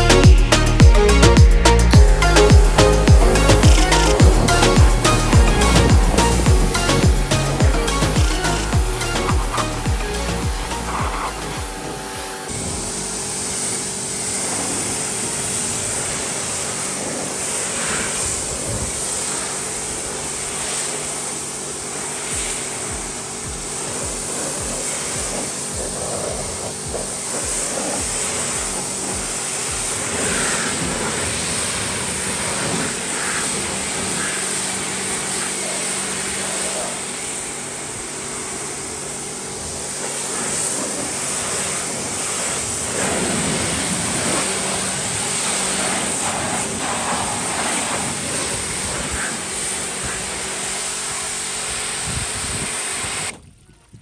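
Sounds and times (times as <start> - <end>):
pressure washer spraying: 0.0 - 53.4.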